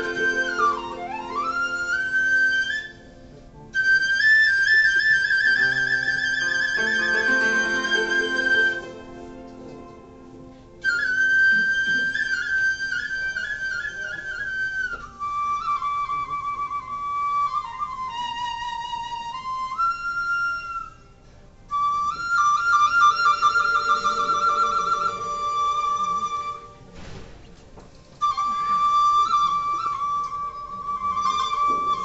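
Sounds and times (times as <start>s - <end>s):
bamboo flute melody with trills: 0.0s - 9.5s, 10.8s - 27.0s, 28.1s - 32.0s.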